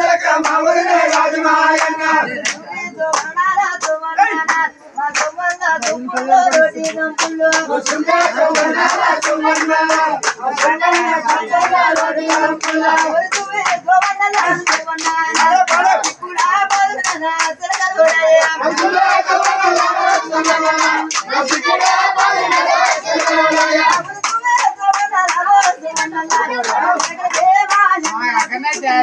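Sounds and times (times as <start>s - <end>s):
group clapping in rhythm: 0.0s - 29.0s
people singing a chant: 0.0s - 29.0s.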